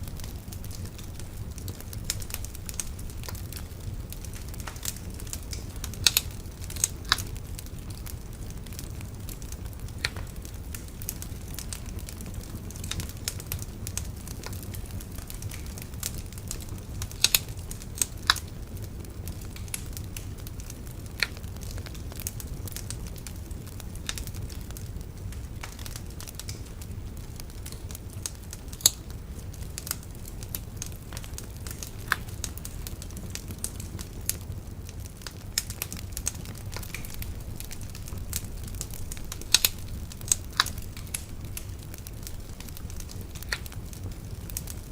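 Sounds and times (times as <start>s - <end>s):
bonfire crackling and popping: 0.0s - 44.9s
low rumble of flames: 0.0s - 44.9s.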